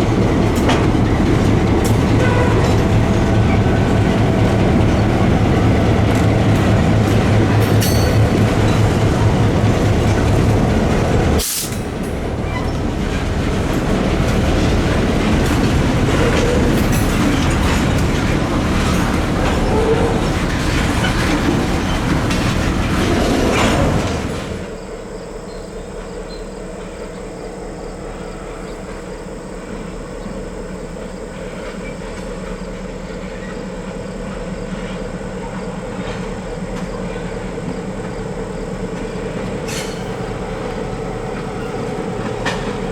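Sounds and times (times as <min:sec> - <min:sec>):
train wheels clicking over rail joints: 0:00.0 - 0:24.8, 0:28.6 - 0:42.9
diesel locomotive engine: 0:00.0 - 0:42.9.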